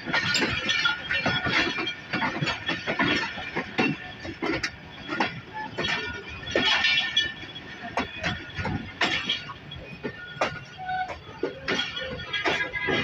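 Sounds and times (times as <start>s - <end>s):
railcar rattling and clanking: 0.0s - 13.0s.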